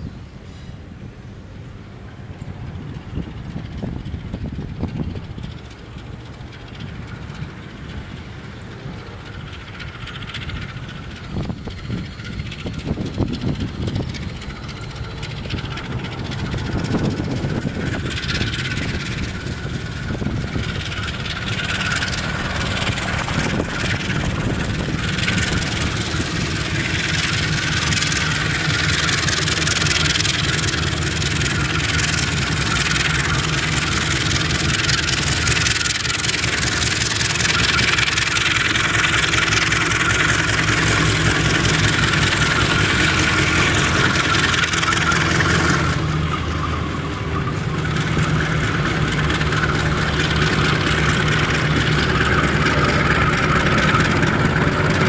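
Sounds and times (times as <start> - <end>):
diesel locomotive engines rumbling: 0.0 - 55.0.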